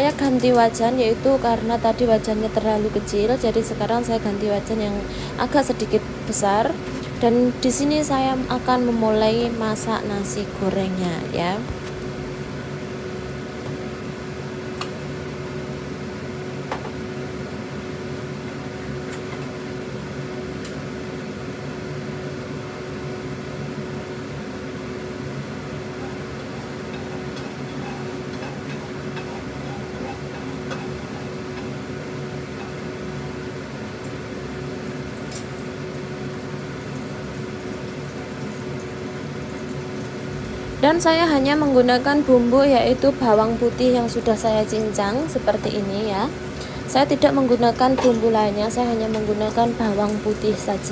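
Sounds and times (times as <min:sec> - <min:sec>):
kitchen fan humming: 0:00.0 - 0:50.9.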